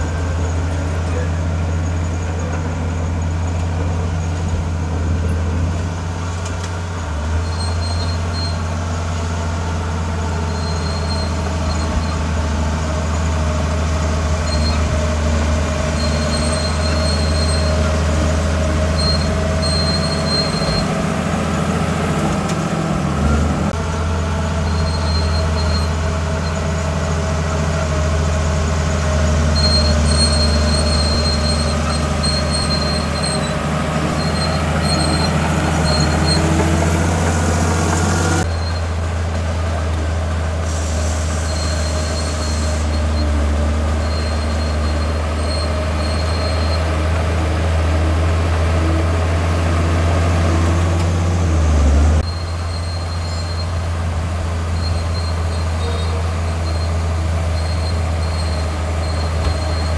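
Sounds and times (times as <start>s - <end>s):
bulldozer diesel engine: 0.0s - 59.9s
steel tracks squealing: 0.0s - 59.9s.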